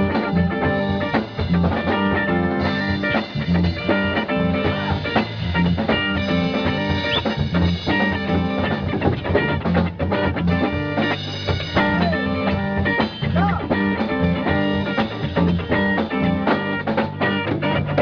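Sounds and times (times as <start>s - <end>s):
bass guitar line: 0.0s - 18.0s
drum beats: 0.0s - 18.0s
electric guitar: 0.0s - 18.0s.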